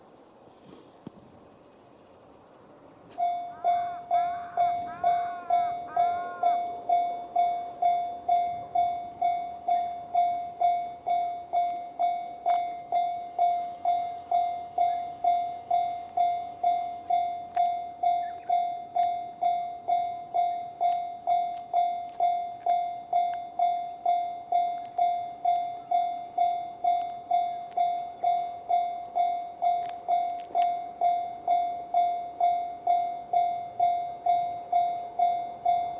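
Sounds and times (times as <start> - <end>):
level crossing warning bell: 3.1 - 35.9.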